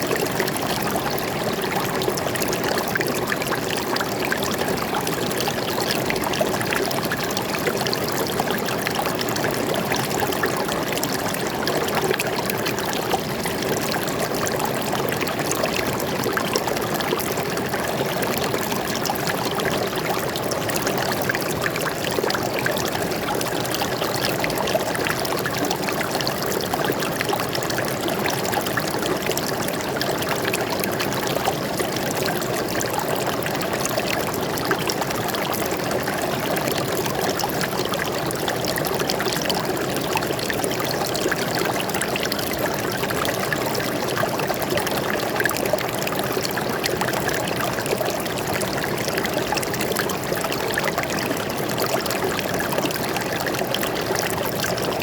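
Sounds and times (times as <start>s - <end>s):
stream water babbling over rocks: 0.0s - 55.0s.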